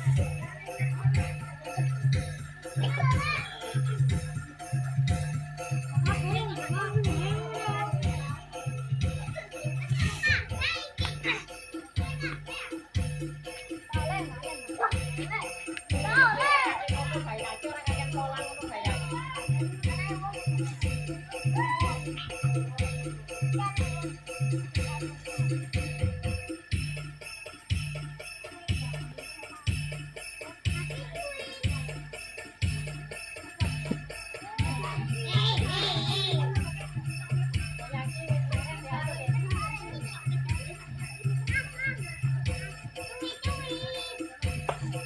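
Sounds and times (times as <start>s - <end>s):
jingling bells: 0.0s - 45.0s
music with bass beat: 0.0s - 45.0s.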